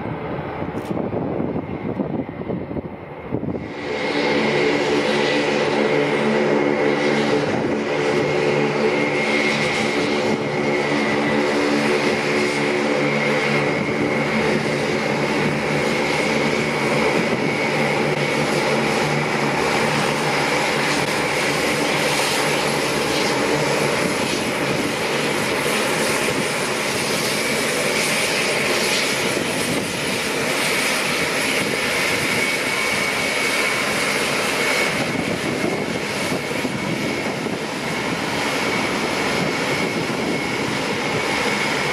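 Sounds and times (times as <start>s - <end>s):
propeller drone: 0.0s - 41.9s
turbine whine: 0.0s - 41.9s.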